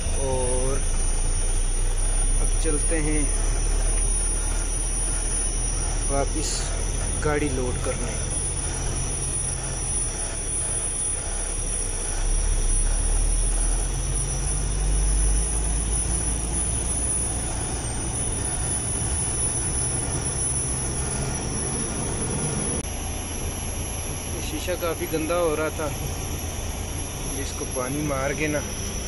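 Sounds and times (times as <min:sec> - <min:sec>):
truck diesel engine rumble: 0:00.0 - 0:29.0.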